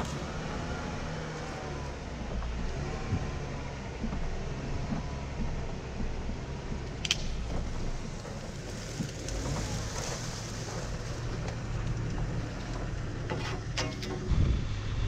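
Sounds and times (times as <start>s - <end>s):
car engine running at low speed: 0.0s - 15.0s.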